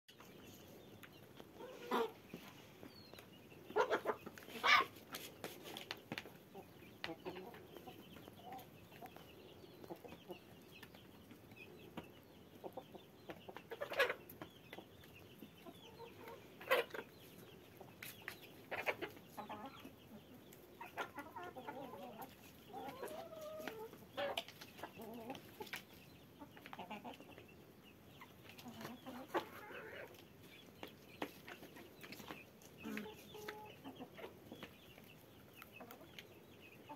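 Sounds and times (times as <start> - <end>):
hens clucking: 0.2 - 36.9.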